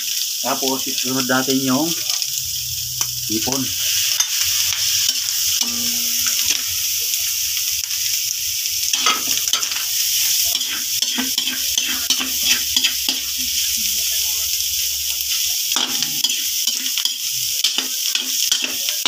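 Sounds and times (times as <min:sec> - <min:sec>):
food sizzling in a wok: 0:00.0 - 0:19.0
metal ladle scraping a pan: 0:02.0 - 0:18.8.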